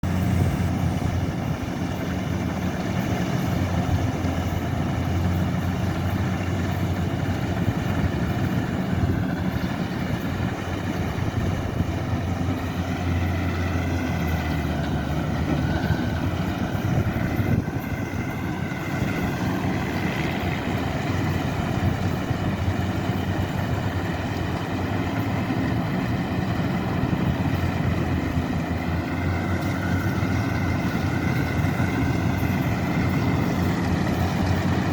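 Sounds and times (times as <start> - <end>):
diesel engine running: 0.0 - 34.9
wavering high whine: 0.0 - 34.9.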